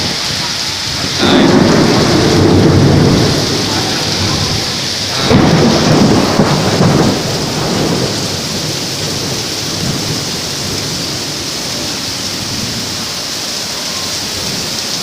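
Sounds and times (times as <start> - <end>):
thunder rolling: 0.0 - 13.0
heavy rain pouring: 0.0 - 15.0.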